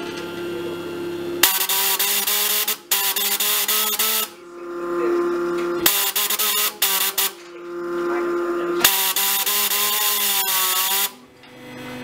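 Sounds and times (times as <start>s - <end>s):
steady machine hum: 0.0s - 12.0s
dot marking stylus buzzing rattle: 1.4s - 11.2s.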